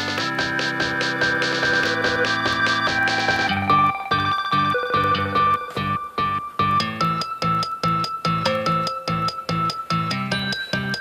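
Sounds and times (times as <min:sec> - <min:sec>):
plucked guitar-like music with beat: 0:00.0 - 0:11.0.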